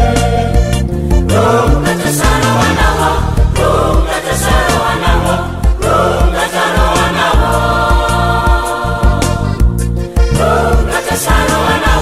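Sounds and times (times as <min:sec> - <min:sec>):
church choir singing: 0:00.0 - 0:00.7, 0:01.3 - 0:12.0
backing track with bass beat: 0:00.0 - 0:12.0.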